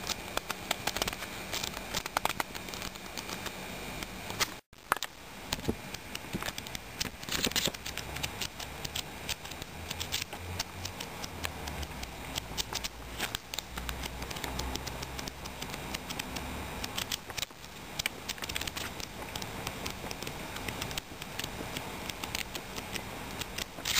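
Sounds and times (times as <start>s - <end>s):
book pages turning: 0.0s - 23.9s.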